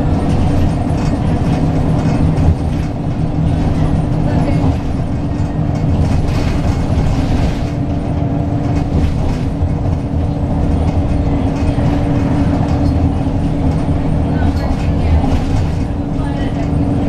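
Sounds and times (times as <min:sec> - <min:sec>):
bus diesel engine drone: 0:00.0 - 0:17.0
tyre and road noise: 0:00.0 - 0:17.0.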